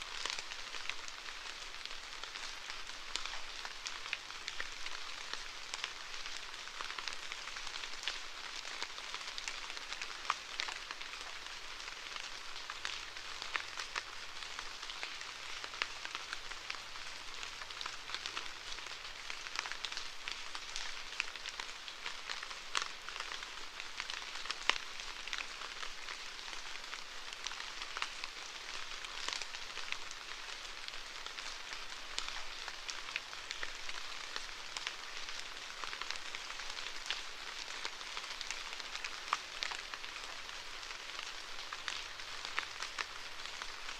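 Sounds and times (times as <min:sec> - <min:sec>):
rain hiss: 0:00.0 - 0:43.9
raindrops ticking on hard surface: 0:00.1 - 0:43.9.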